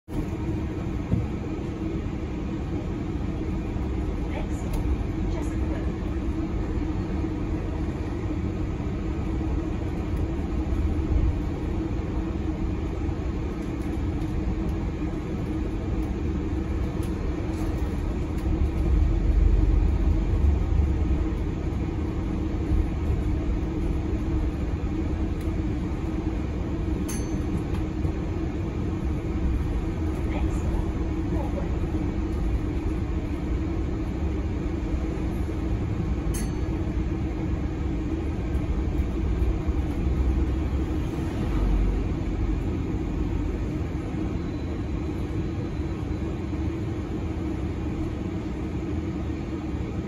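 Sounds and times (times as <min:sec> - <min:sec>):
bus engine rumbling: 0:00.1 - 0:50.0.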